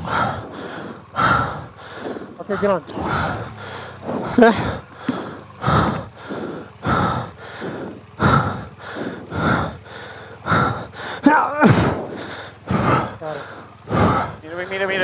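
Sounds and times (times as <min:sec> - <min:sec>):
person breathing hard: 0:00.0 - 0:14.8.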